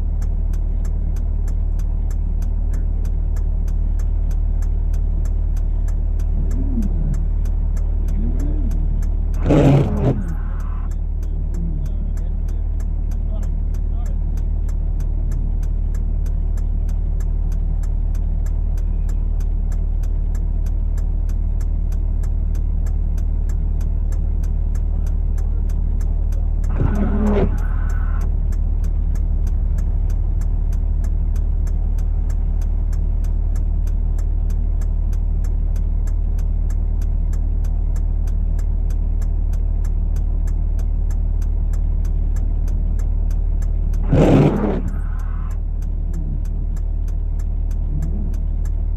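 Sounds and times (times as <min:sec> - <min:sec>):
vehicle engine humming: 0:00.0 - 0:48.9
fast even ticking: 0:00.1 - 0:48.9.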